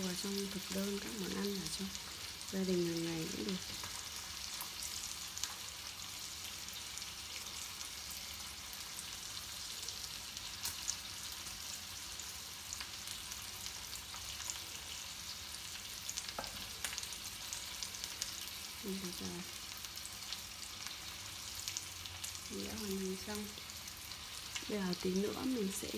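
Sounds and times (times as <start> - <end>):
sizzling hiss with crackles: 0.0 - 25.9.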